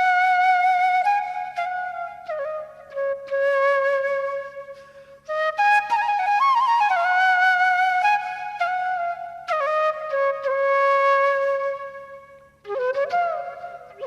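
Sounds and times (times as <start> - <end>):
flute playing slow melody: 0.0 - 14.0.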